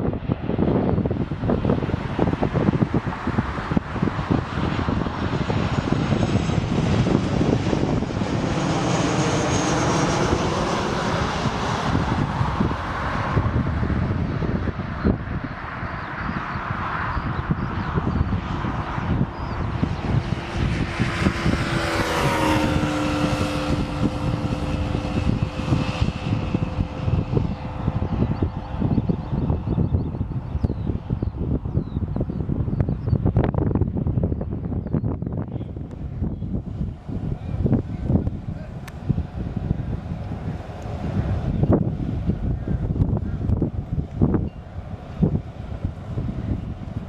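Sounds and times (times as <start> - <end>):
jet airliner engines: 0.0 - 47.0
wind buffeting microphone: 0.0 - 47.0.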